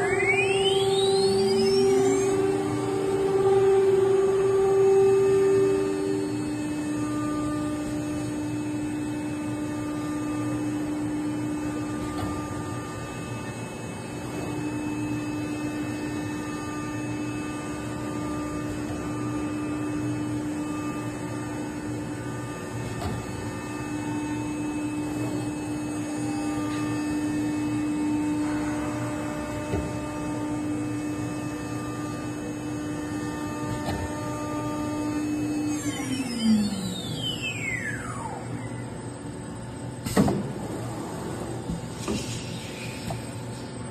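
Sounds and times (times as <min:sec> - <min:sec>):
router machine humming: 0:00.0 - 0:38.2.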